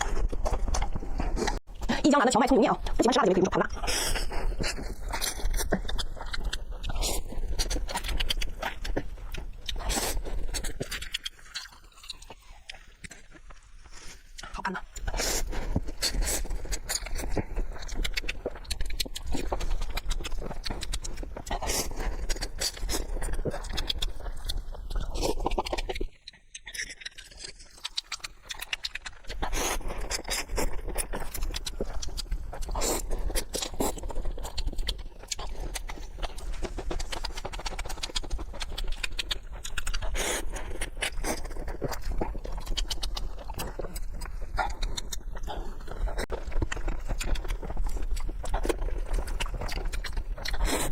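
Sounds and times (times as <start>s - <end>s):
person chewing noodles: 0.0s - 1.9s, 2.8s - 50.9s.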